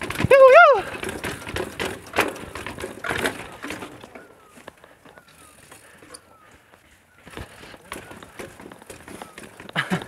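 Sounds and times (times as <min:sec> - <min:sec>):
bike clattering down steps: 0:00.0 - 0:10.0.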